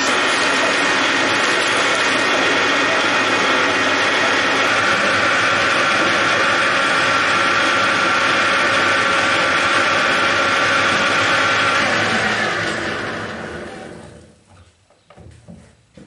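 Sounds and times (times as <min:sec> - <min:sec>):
metal lathe running: 0:00.0 - 0:14.2
lathe spinning down: 0:00.0 - 0:14.3.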